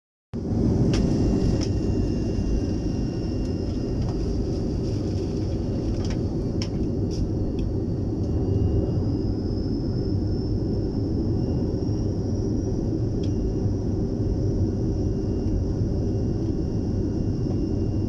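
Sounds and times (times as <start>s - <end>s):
airliner cabin rumble: 0.4s - 18.0s
faint high whine: 0.4s - 18.0s.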